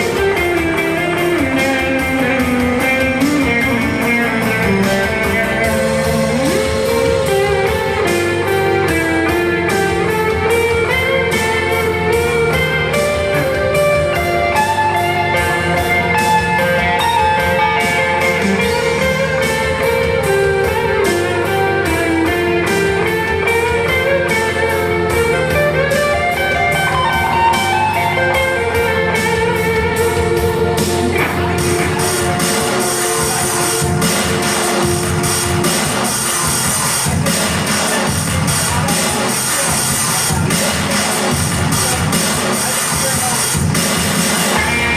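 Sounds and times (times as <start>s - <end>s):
electric guitar: 0.0s - 44.9s
live band music: 0.0s - 44.9s.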